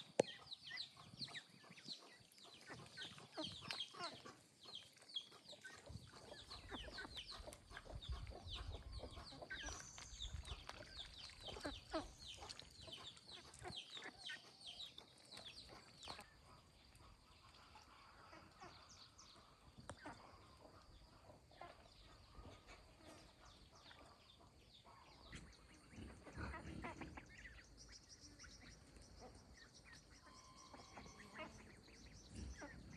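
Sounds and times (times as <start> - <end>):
poultry chicks peeping: 0.0 - 32.9.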